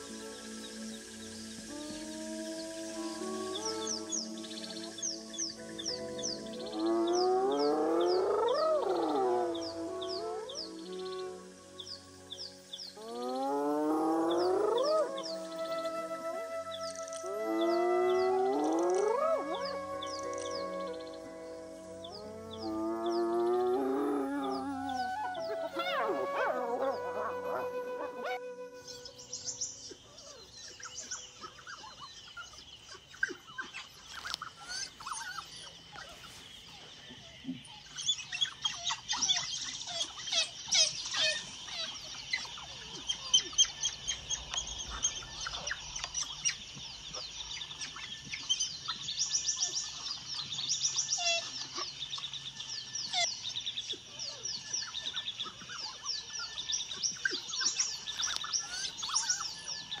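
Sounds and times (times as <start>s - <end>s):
birds chirping and chattering: 0.0s - 60.0s.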